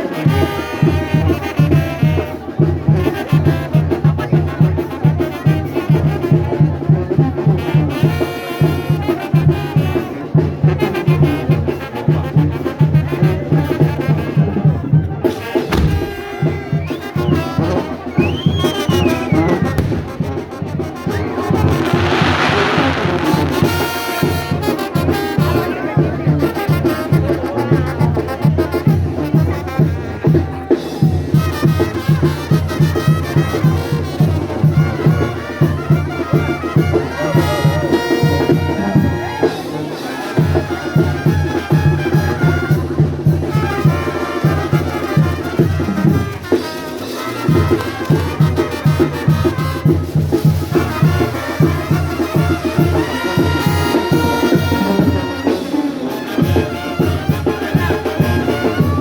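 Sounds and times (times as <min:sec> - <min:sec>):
brass band playing latin music: 0:00.0 - 0:59.0.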